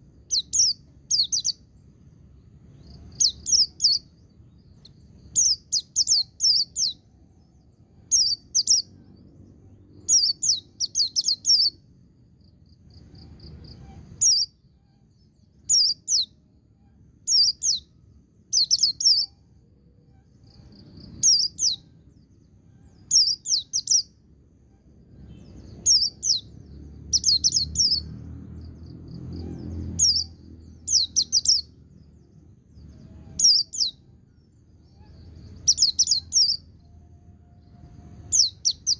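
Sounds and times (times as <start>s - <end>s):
faint low rumble: 0.0s - 38.9s.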